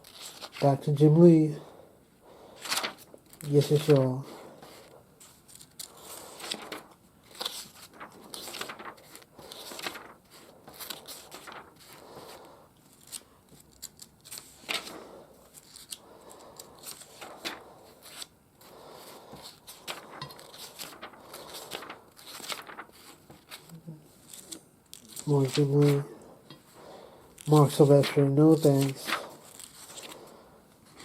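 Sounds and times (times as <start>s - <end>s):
paper pages turning: 0.0s - 1.0s, 2.5s - 31.0s.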